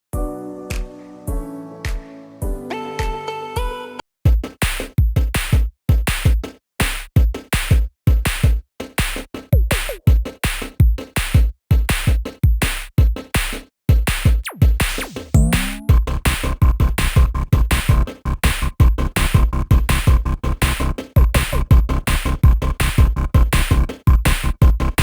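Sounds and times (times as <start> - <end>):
electronic music with drum machine: 0.2 - 25.0.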